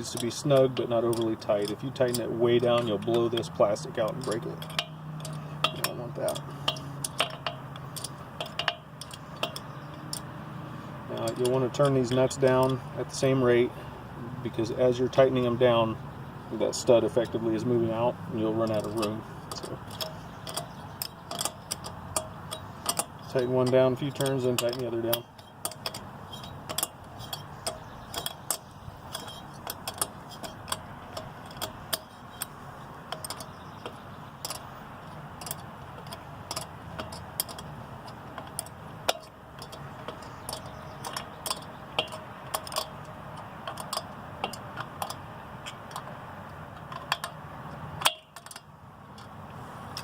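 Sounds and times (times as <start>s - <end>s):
wrench clicking on metal nuts: 0.0s - 13.6s, 16.6s - 50.0s.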